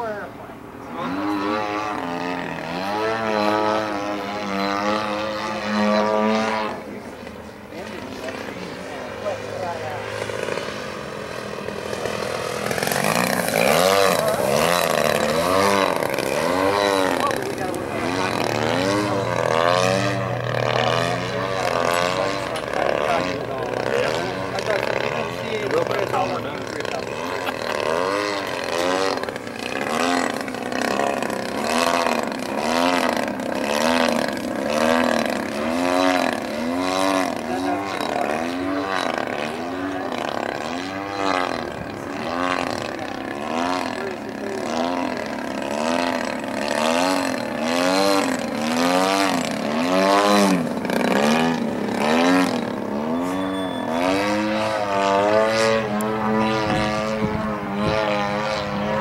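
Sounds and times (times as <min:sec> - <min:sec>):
model airplane engine and propeller: 0:00.0 - 0:59.0.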